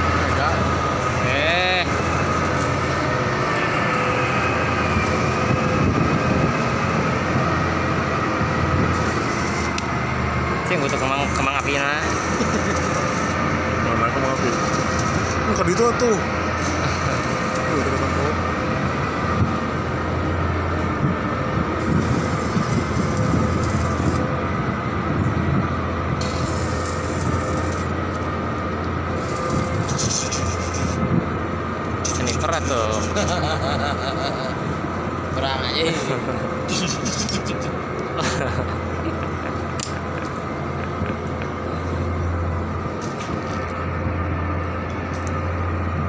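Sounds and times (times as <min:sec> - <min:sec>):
heavy machinery drone: 0:00.0 - 0:46.0
high-pitched whine: 0:00.0 - 0:46.0
low hum: 0:00.0 - 0:46.0.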